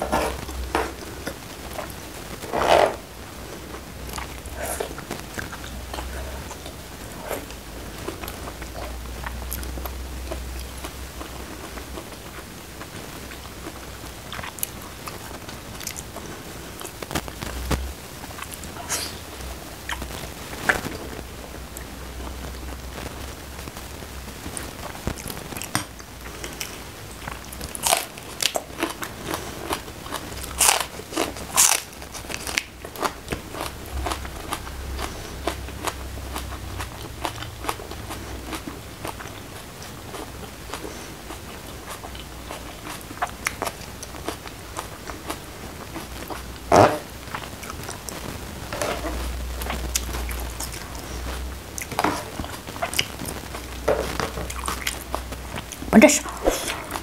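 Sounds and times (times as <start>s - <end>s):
close chewing with mouth noises: 3.5s - 23.1s, 23.7s - 57.0s.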